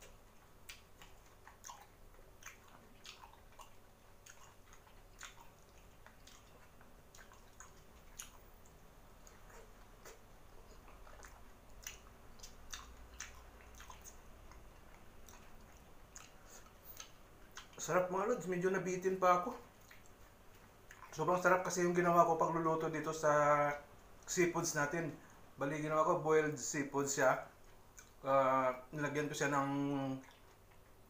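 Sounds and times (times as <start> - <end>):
faint wet chewing: 0.0 - 25.6, 27.1 - 31.0.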